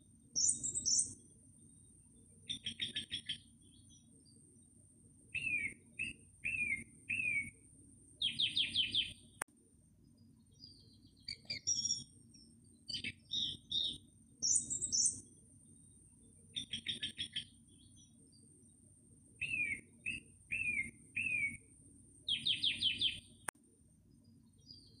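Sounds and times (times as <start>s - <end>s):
small birds chirping: 0.0s - 9.4s, 10.0s - 23.5s, 24.1s - 25.0s
faint background hiss: 0.0s - 25.0s.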